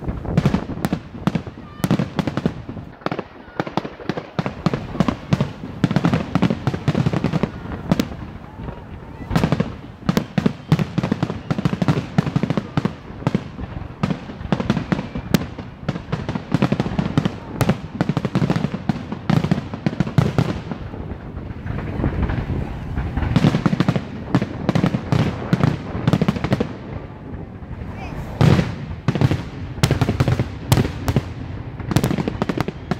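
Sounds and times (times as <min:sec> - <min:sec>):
fireworks bursts and crackling: 0:00.0 - 0:32.9.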